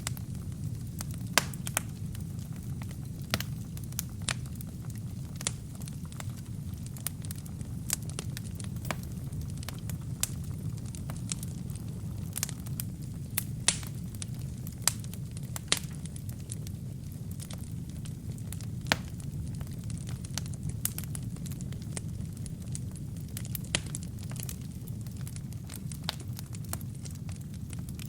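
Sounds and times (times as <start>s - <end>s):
fire burning in a fireplace: 0.0s - 28.0s
wood crackling and popping: 0.0s - 28.0s.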